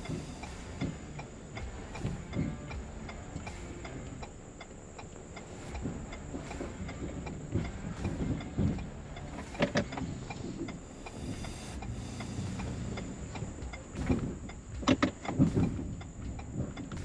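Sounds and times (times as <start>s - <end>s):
regular ticking: 0.0s - 17.0s.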